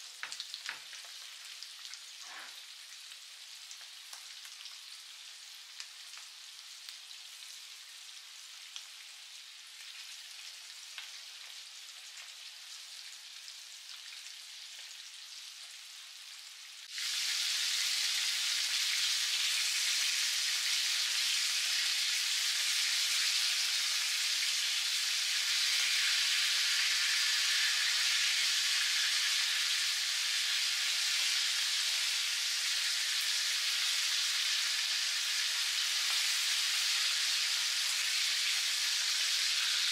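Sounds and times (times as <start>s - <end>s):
chicken sizzling in hot oil: 0.0s - 39.9s.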